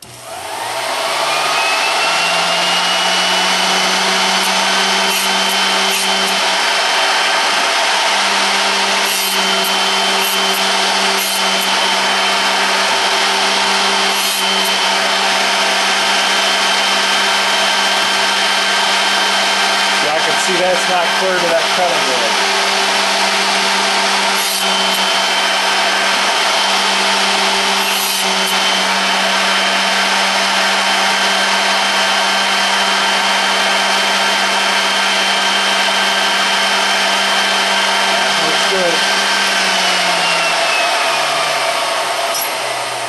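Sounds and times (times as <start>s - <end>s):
electric motor humming and whining: 0.0s - 43.0s
drill bit grinding on wheel: 1.3s - 43.0s.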